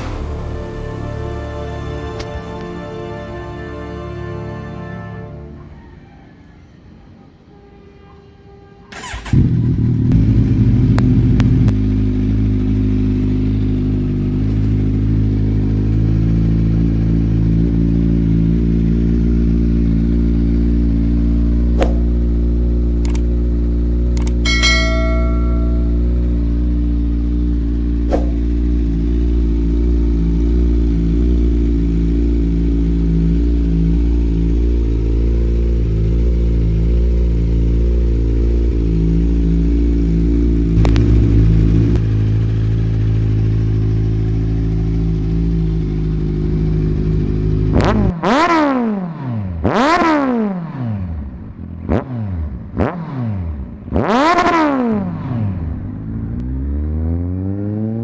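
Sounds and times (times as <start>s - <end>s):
motorcycle engine idling and revving: 8.9s - 58.0s.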